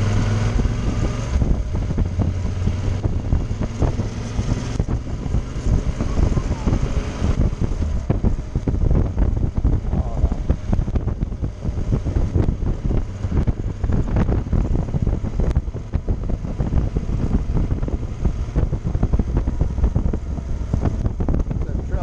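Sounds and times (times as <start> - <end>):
motorcycle engine: 0.0 - 22.0
wind buffeting microphone: 0.0 - 22.0.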